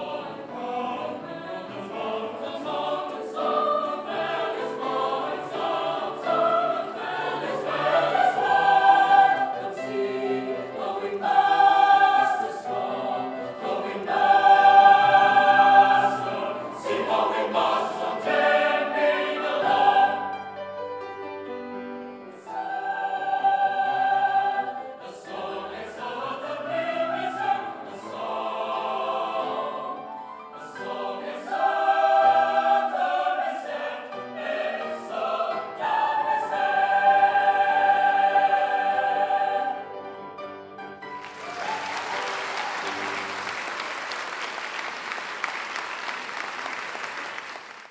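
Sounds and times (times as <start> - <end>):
mixed choir singing in harmony: 0.0 - 45.3.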